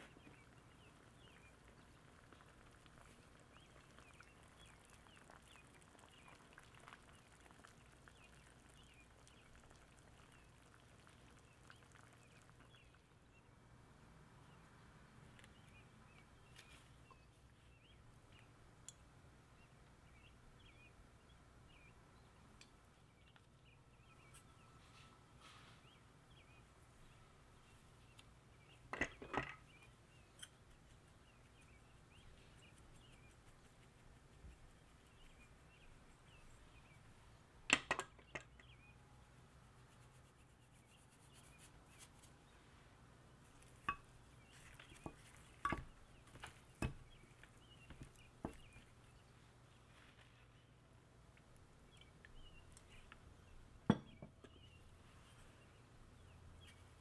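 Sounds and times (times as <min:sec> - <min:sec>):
faint bird chirps: 0:00.0 - 0:13.6, 0:14.4 - 0:37.1, 0:38.0 - 0:42.8, 0:43.5 - 0:50.9, 0:51.8 - 0:57.0.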